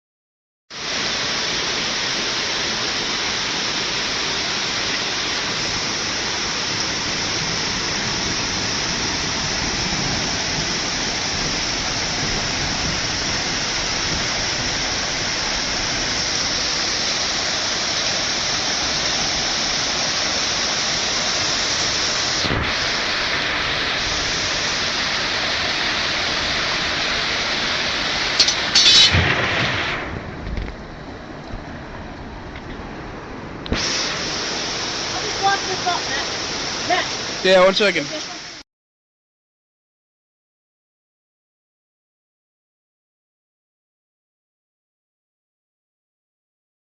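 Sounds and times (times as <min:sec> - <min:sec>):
water rushing: 0:00.7 - 0:38.6.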